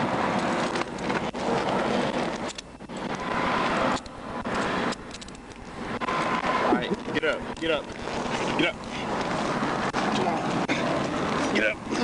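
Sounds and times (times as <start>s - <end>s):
loud steady rushing noise: 0.0s - 12.0s.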